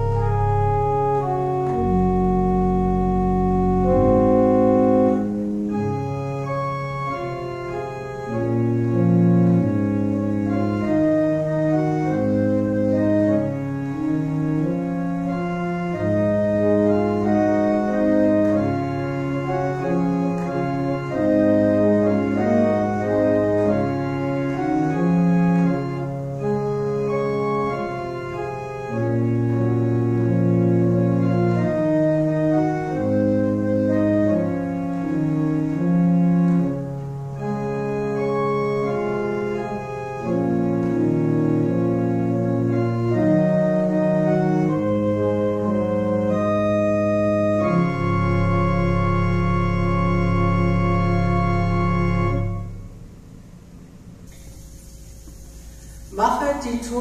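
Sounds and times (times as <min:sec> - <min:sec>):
pipe organ chords: 0:00.0 - 0:57.0.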